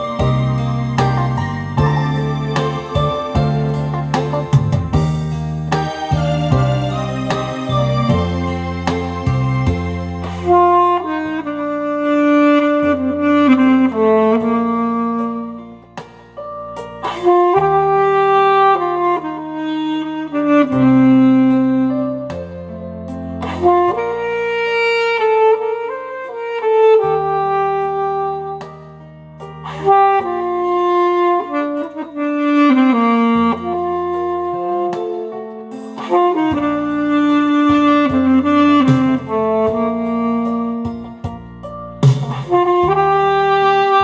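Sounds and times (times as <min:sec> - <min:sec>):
alto saxophone melody: 0:00.0 - 0:44.0
backing track with bass: 0:00.0 - 0:44.0.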